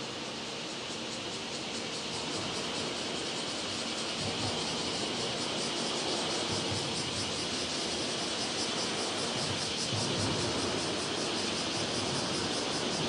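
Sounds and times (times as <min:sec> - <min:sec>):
distant freight train rumble: 0:00.0 - 0:13.0
pulsing insect chorus: 0:00.0 - 0:13.0.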